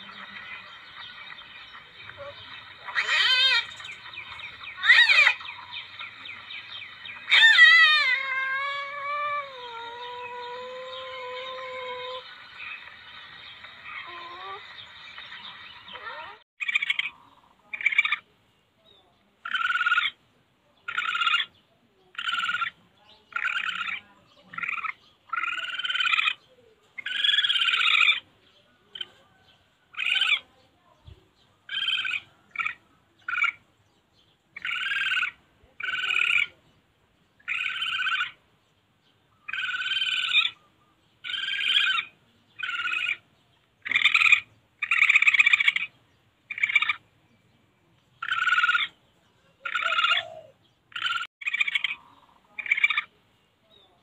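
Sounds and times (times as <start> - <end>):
civet calls: 0.0 - 18.2, 19.4 - 20.2, 20.9 - 26.4, 27.0 - 28.3, 28.9 - 30.5, 31.7 - 33.6, 34.6 - 36.6, 37.4 - 38.4, 39.4 - 47.0, 48.2 - 49.0, 49.6 - 53.2.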